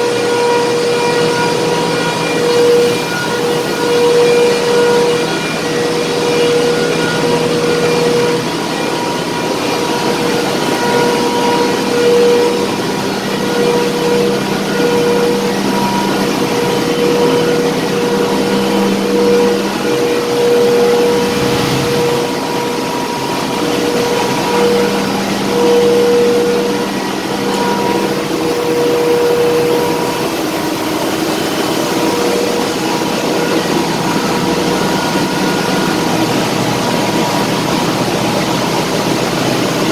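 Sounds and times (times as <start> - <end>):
constant rushing noise: 0.0 - 39.9
engine room machinery hum: 0.0 - 39.9
steady machine tones: 0.0 - 39.9.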